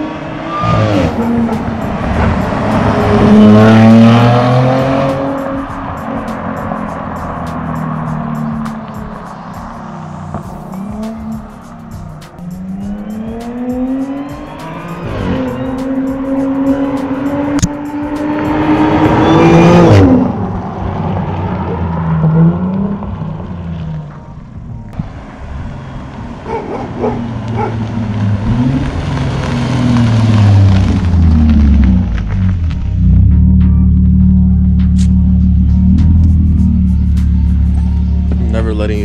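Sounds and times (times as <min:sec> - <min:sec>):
car engine accelerating hard: 0:00.0 - 0:24.1, 0:25.0 - 0:39.0
road noise: 0:00.0 - 0:39.0.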